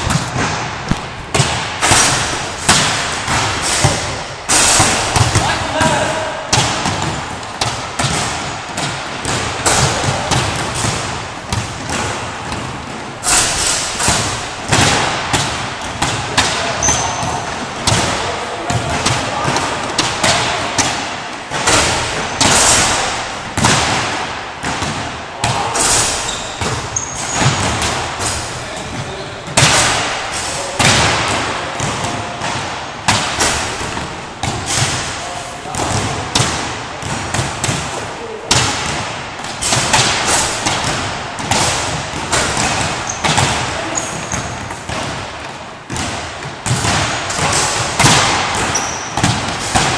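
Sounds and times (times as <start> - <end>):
basketballs bouncing on wooden floor: 0.0 - 49.9.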